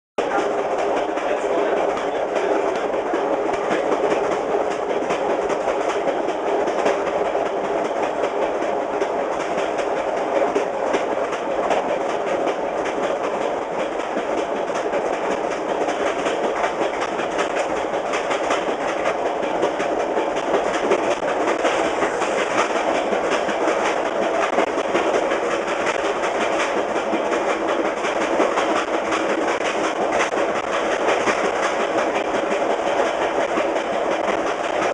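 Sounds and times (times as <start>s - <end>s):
rumble of rail and wind noise: 0.2s - 34.9s
train wheels clicking over rail: 0.2s - 34.9s.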